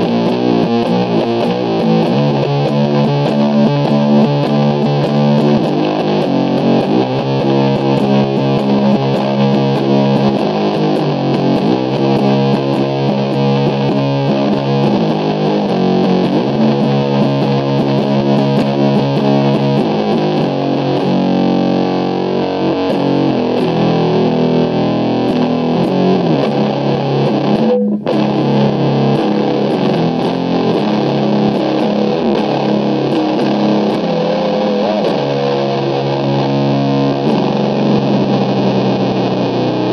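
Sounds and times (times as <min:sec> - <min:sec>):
distorted electric guitar riffing: 0:00.0 - 0:39.9.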